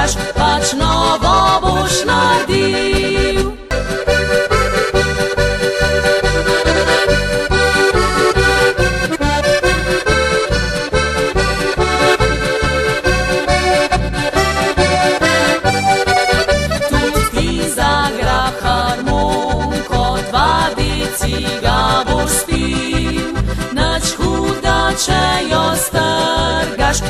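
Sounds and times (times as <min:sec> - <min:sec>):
steady bass beat: 0:00.0 - 0:26.2
accordion: 0:00.0 - 0:27.0.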